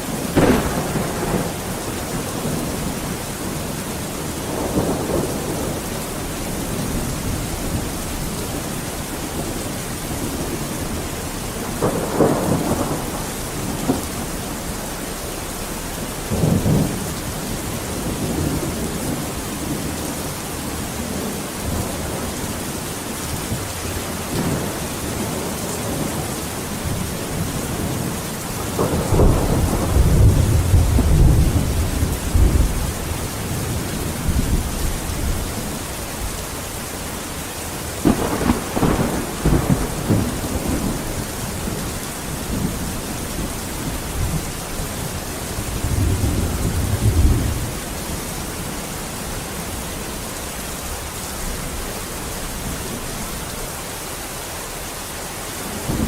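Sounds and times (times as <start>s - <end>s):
thunder rumbling: 0.0s - 53.4s
steady rain: 0.0s - 56.0s.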